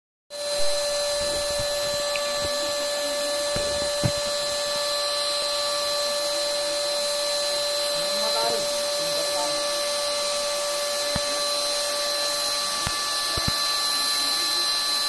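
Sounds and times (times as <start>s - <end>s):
spray painting machine motor whine: 0.3s - 15.0s.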